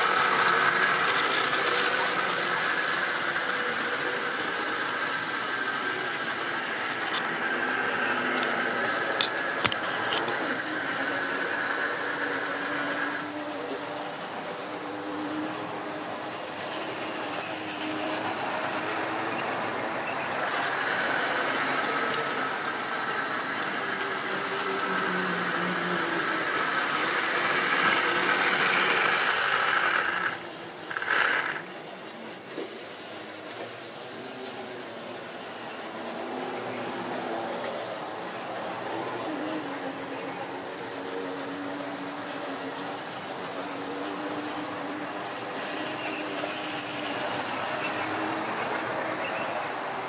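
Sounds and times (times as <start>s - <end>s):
model train running on track: 0.0s - 50.0s.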